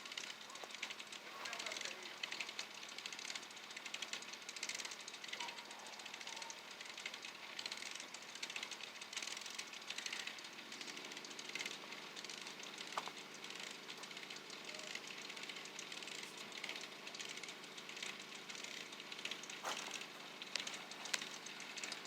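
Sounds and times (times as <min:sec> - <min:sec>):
sleet ticking on surfaces: 0:00.0 - 0:22.0.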